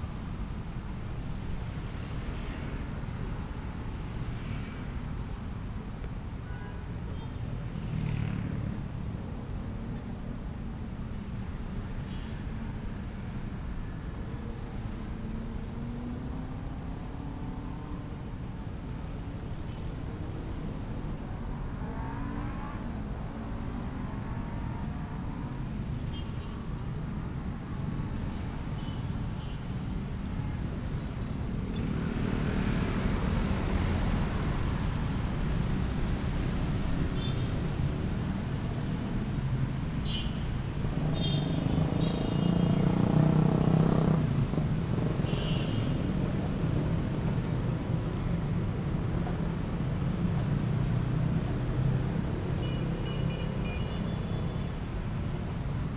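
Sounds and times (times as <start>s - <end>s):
passing cars: 0.0s - 6.4s, 7.4s - 55.9s
motorcycle engines idling and pulling away: 7.5s - 10.8s, 14.4s - 55.9s.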